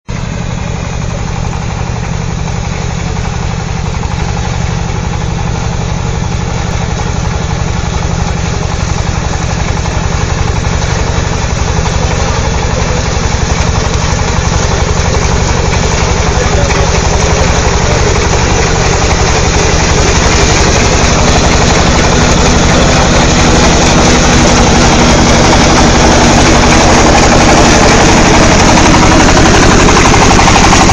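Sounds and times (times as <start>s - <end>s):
diesel engine running under load: 0.1s - 30.9s.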